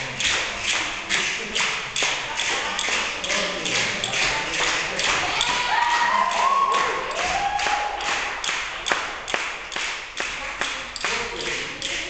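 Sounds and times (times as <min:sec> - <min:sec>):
steady percussive beat: 0:00.0 - 0:12.0.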